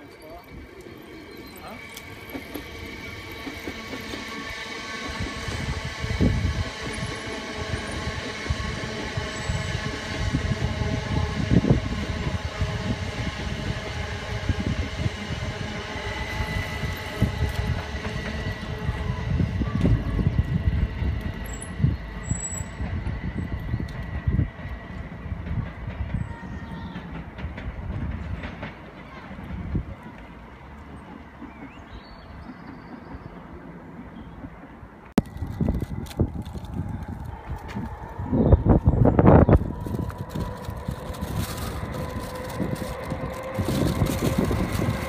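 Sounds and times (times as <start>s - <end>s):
train wheels rumbling on rails: 0.0s - 45.0s
train whining tones: 0.0s - 45.0s.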